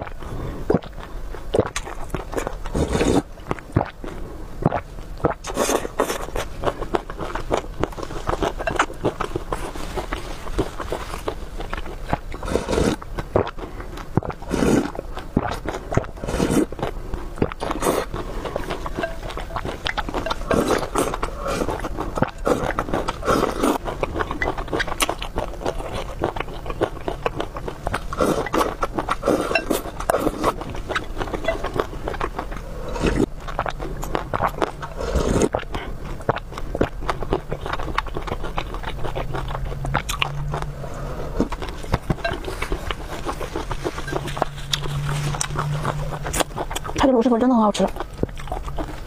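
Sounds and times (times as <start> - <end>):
person chewing with wet smacks: 0.0 - 49.0.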